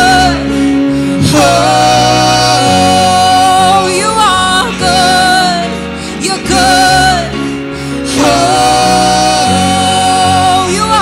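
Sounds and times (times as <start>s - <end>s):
worship band playing: 0.0s - 11.0s
woman singing with vibrato: 1.2s - 7.4s, 8.1s - 11.0s.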